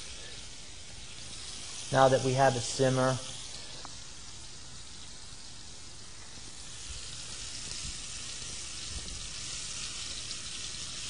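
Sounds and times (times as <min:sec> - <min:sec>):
meatballs sizzling in hot oil: 0:00.0 - 0:11.0.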